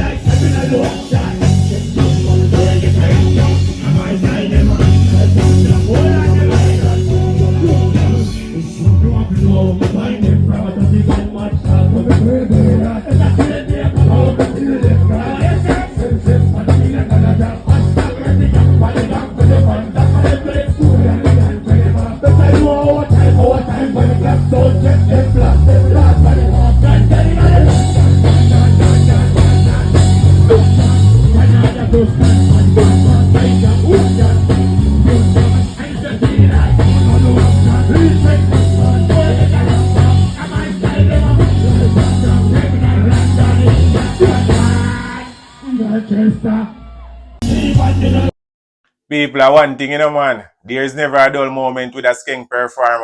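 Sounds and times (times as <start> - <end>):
dancehall music over sound system: 0.0 - 48.3.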